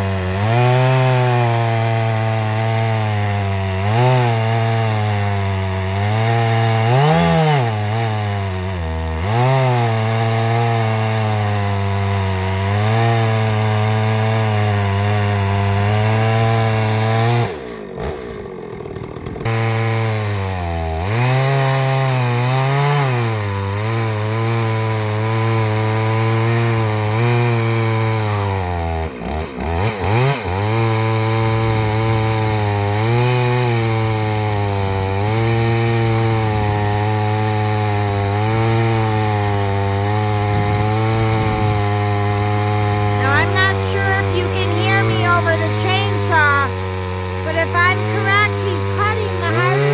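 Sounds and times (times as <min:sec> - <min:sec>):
chainsaw cutting a log: 0:00.0 - 0:49.9.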